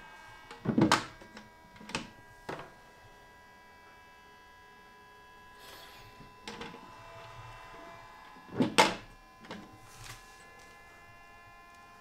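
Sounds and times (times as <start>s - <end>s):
dryer fan humming with whine: 0.0s - 12.0s.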